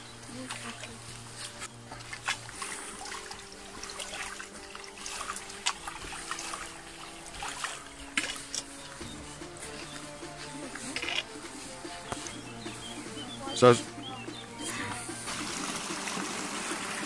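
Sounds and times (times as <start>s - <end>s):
footsteps on wet grass: 0.0s - 16.8s
water trickling in channel: 0.0s - 17.0s.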